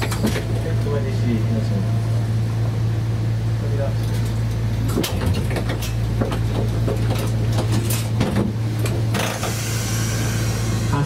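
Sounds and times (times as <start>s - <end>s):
steady low equipment hum: 0.0s - 11.0s.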